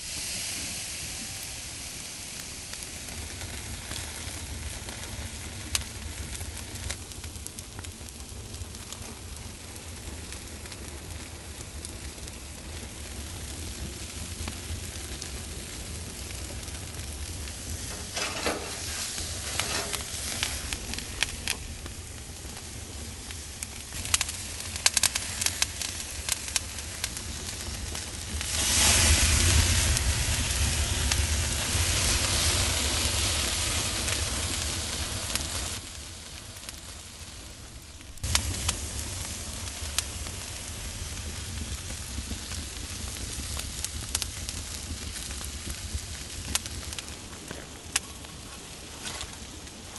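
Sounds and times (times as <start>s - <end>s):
steak sizzling on grill: 0.0s - 6.3s, 10.9s - 37.4s, 38.2s - 47.0s
fire crackling: 0.0s - 49.9s
flames flaring up: 0.0s - 49.9s.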